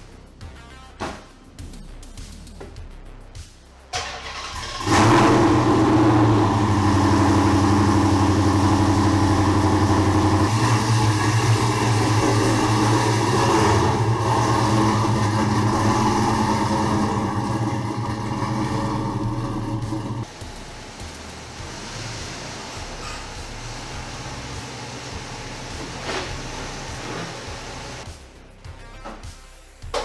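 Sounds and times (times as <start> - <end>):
car engine starting and running: 3.8 - 28.2.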